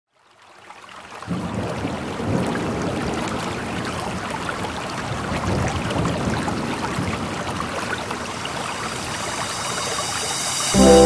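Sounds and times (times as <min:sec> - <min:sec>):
rushing stream water: 0:00.2 - 0:11.0.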